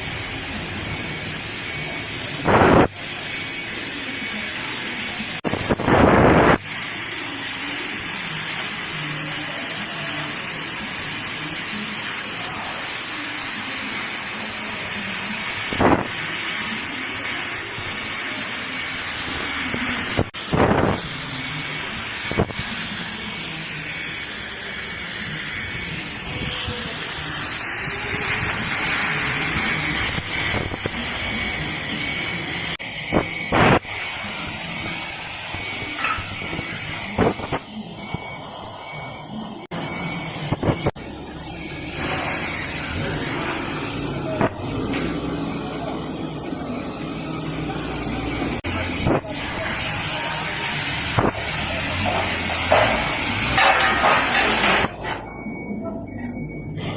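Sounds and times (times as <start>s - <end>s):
cutting torch hissing: 0.0s - 55.3s.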